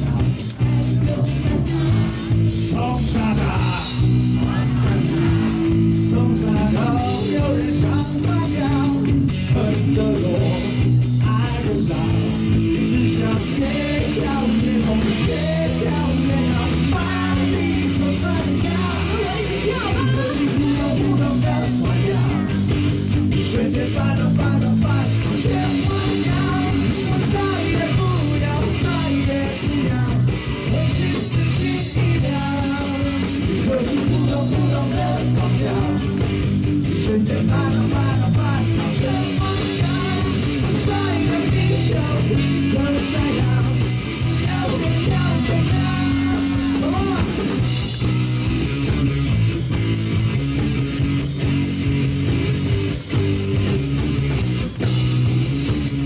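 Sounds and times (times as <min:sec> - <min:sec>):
person singing: 0:00.0 - 0:47.6
electric guitar: 0:00.0 - 0:56.0
live rock band: 0:00.0 - 0:56.0.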